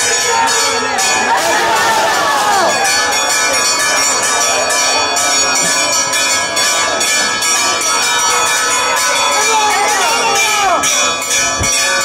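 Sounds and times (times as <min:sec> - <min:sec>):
church bells pealing: 0:00.0 - 0:12.0
faint crowd voices: 0:00.0 - 0:12.0.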